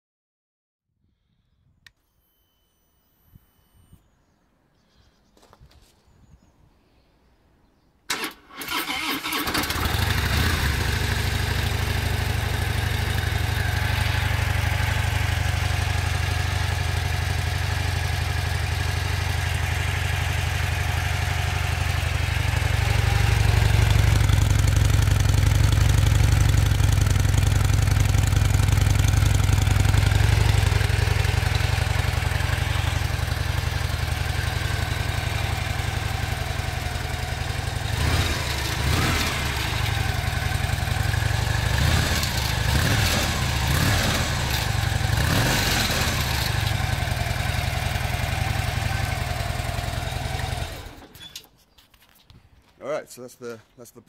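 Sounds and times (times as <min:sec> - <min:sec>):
motorcycle starting and idling: 0:08.1 - 0:51.6.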